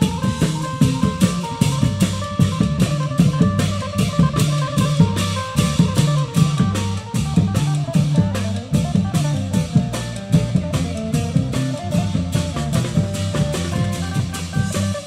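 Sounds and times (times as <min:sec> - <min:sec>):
drums and cymbals beat: 0:00.0 - 0:15.0
heavy bass line: 0:00.0 - 0:15.0
plucked string melody: 0:00.0 - 0:15.0.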